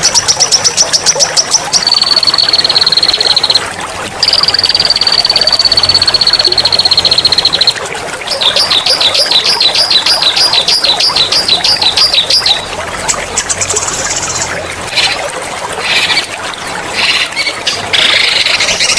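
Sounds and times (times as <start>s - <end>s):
songbirds singing: 0.0s - 3.6s, 4.2s - 18.9s
trickling water: 0.0s - 18.9s.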